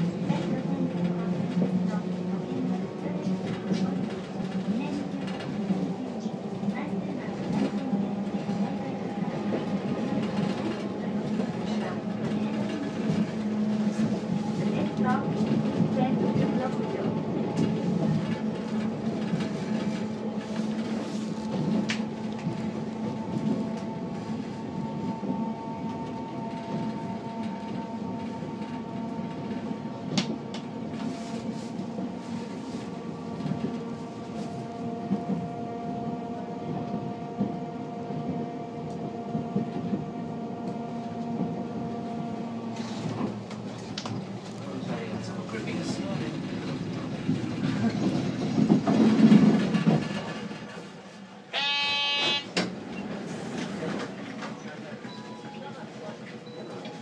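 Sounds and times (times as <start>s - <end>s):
streetcar wheels and motor rumbling: 0.0s - 51.6s, 52.3s - 57.0s.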